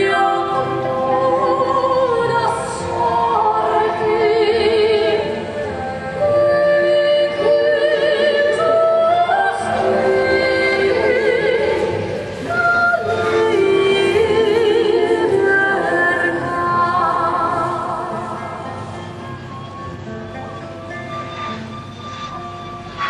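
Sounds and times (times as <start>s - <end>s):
operatic singing: 0.0s - 18.9s
musical accompaniment: 0.0s - 23.0s.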